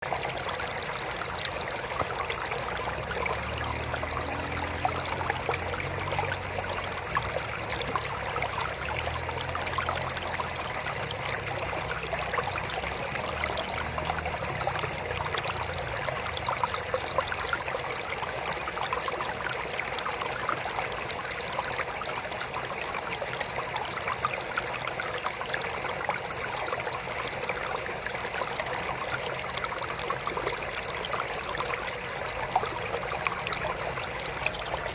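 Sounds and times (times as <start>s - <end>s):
water trickling into aquarium: 0.0s - 34.9s.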